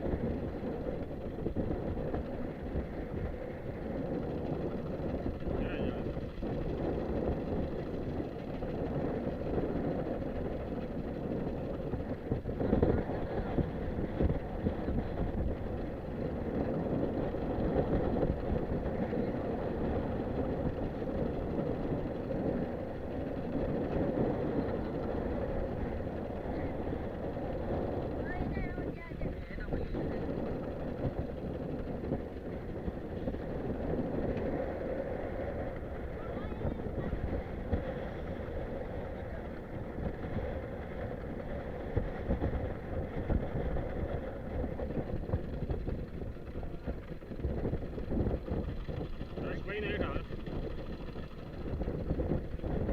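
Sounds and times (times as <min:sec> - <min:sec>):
boat engine idling: 0:00.0 - 0:52.9
wind buffeting microphone: 0:00.0 - 0:52.9.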